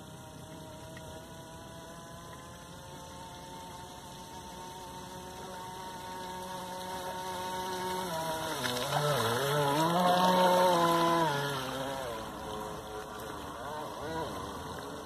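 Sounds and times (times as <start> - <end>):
model boat motor running: 0.0 - 15.0.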